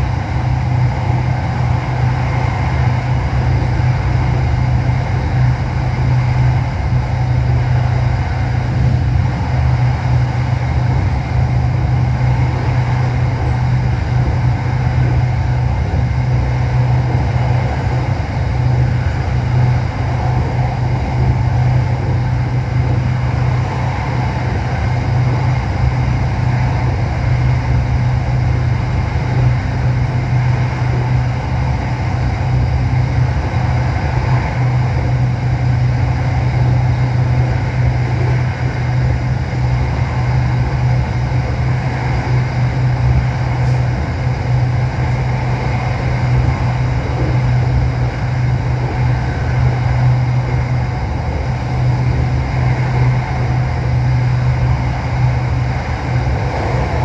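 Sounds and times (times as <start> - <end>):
low hum: 0.0 - 57.0
train rushing noise: 0.0 - 57.0.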